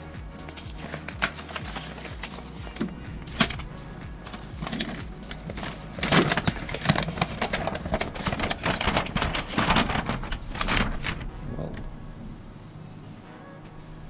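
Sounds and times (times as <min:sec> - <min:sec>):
paper crinkling and rustling: 0:00.4 - 0:11.9.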